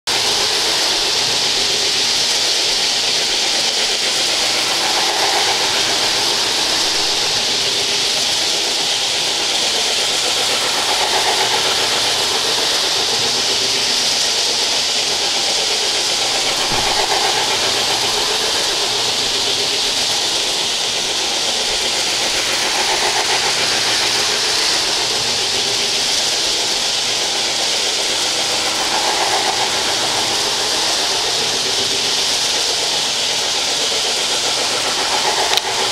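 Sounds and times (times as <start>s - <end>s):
model train running on track: 0.0s - 35.9s.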